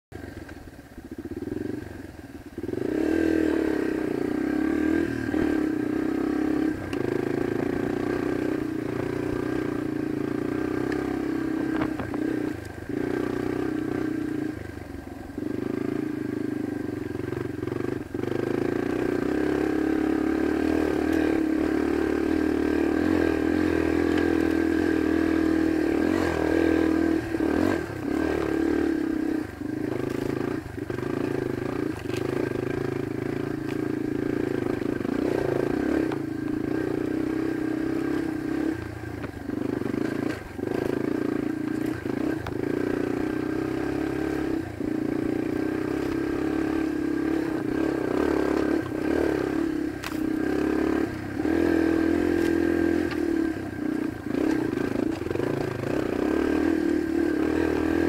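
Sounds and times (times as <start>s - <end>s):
dirt bike engine revving: 1.3s - 58.0s.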